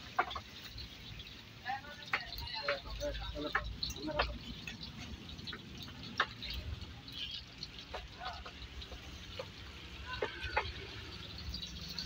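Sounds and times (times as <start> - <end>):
traffic rumble on wet road: 0.0 - 12.0.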